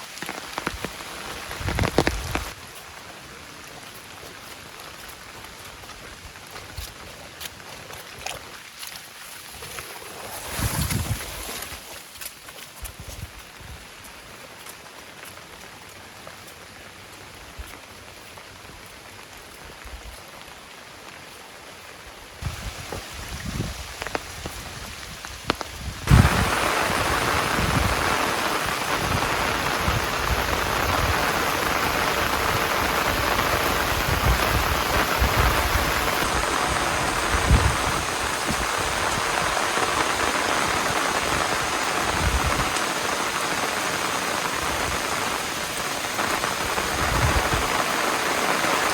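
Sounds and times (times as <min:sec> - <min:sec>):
heavy rain falling: 0:00.0 - 0:08.8, 0:13.3 - 0:48.9.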